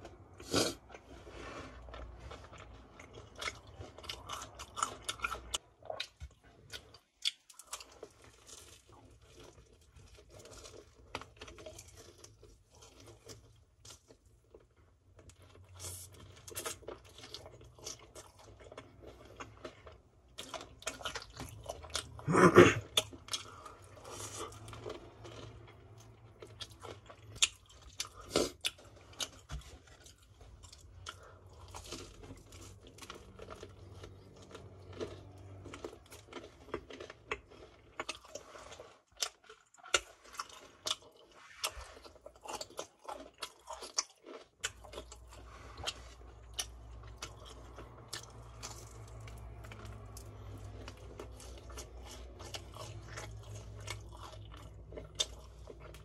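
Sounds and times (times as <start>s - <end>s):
crispy batter crunching: 0.0s - 56.0s
wet chewing: 0.0s - 56.0s.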